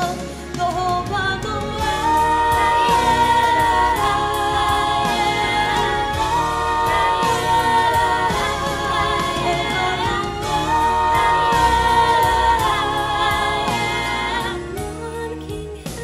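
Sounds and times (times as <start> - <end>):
woman singing in harmony: 0.0 - 16.0.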